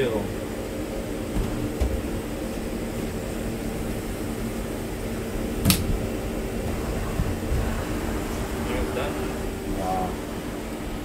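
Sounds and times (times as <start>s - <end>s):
coolant flowing: 0.0s - 11.0s
lathe machine hum: 0.0s - 11.0s.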